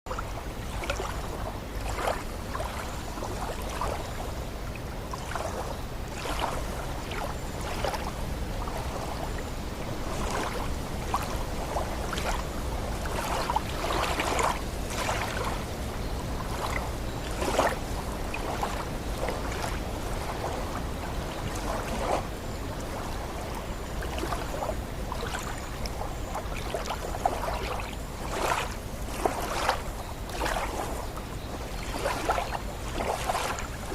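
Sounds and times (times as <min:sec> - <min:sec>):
lake water lapping and splashing: 0:00.1 - 0:33.9
wind rumble on microphone: 0:00.1 - 0:33.9.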